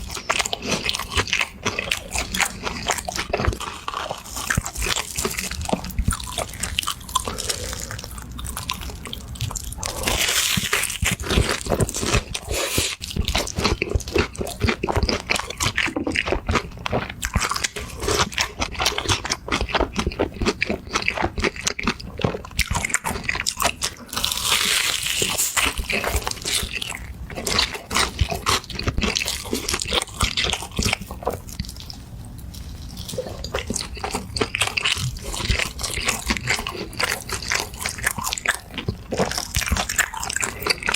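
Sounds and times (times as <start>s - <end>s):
person chewing crisp food: 0.0s - 40.9s.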